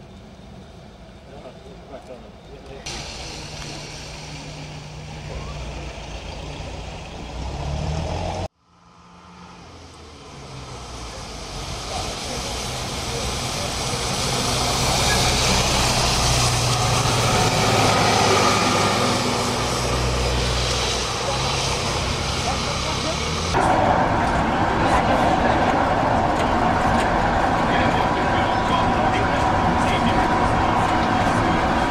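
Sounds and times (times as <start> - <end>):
bus engine passing close: 0.0 - 31.9
street traffic: 0.0 - 31.9.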